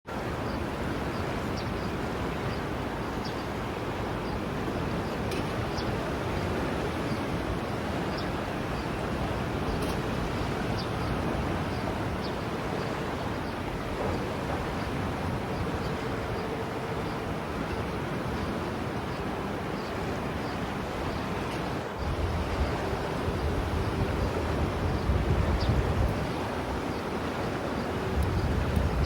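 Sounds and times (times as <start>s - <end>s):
sea surf rushing: 0.1s - 29.0s
wind on microphone: 0.2s - 29.0s.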